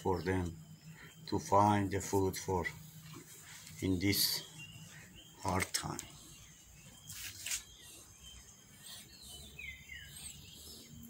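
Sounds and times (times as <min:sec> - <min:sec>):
small bird chirps: 0:00.0 - 0:11.0.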